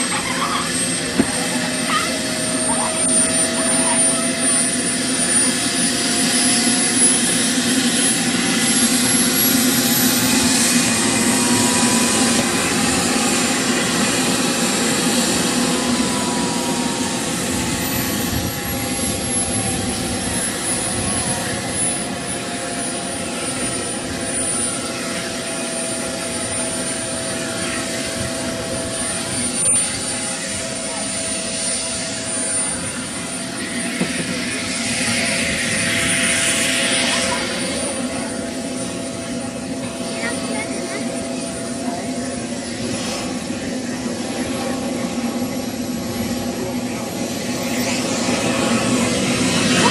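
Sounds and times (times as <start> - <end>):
model jet turbine whine: 0.0 - 49.9.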